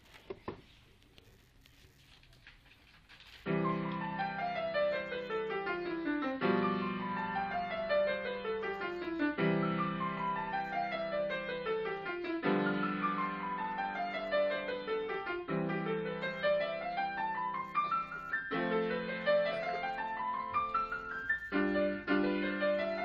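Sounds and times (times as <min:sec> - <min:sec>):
grand piano playing: 0:03.5 - 0:23.0.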